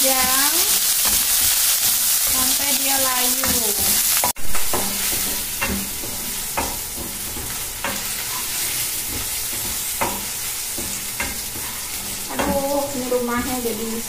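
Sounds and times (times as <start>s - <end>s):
food sizzling in oil: 0.0s - 14.0s
spatula scraping a pan: 0.2s - 14.0s.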